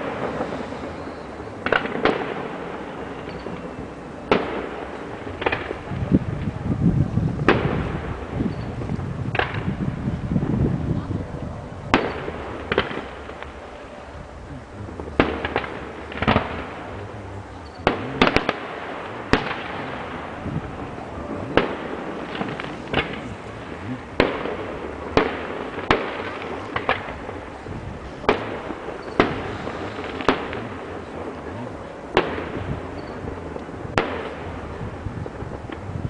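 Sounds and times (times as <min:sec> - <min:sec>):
fireworks bangs: 0:00.0 - 0:36.0
steady noisy background: 0:00.0 - 0:36.0.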